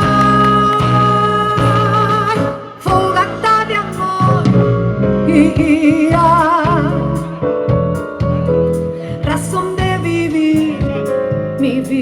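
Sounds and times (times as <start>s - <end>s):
instrumental ballad music: 0.0s - 12.0s.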